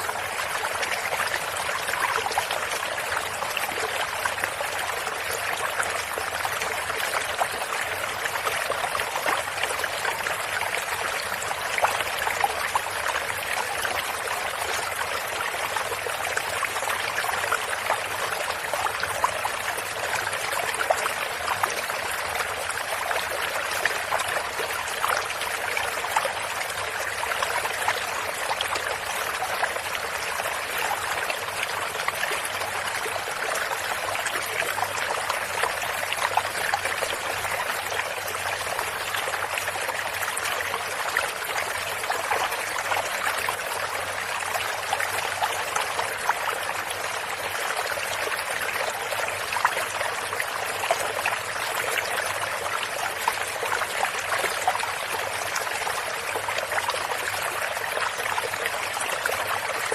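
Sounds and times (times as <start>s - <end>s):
shallow stream running: 0.0s - 59.9s.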